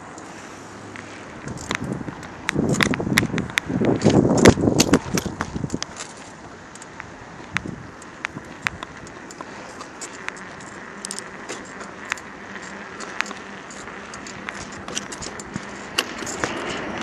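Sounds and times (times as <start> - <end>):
bicycle clicks and rattles: 0.0 - 17.0
tyre and wind noise: 0.0 - 17.0.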